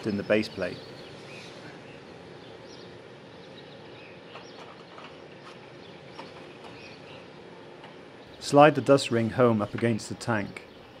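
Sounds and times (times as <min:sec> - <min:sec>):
distant bird chirps: 0:00.0 - 0:11.0
faint outdoor background noise: 0:00.0 - 0:11.0.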